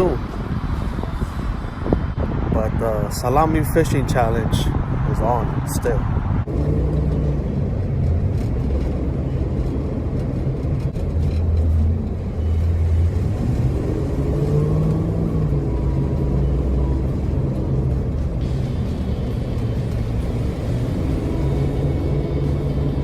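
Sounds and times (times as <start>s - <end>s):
car engine and road hum: 0.0s - 23.0s.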